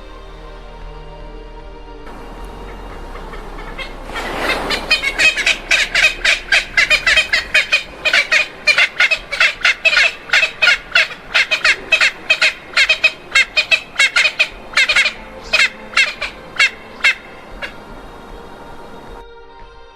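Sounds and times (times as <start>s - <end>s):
birds chattering calls: 2.1s - 19.2s.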